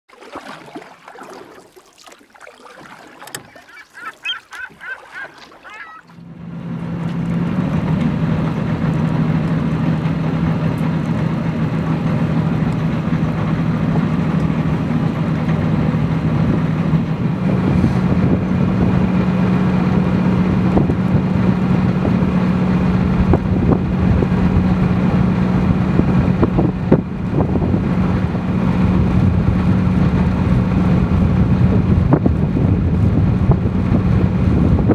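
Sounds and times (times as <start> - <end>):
boat engine running: 0.1 - 34.9.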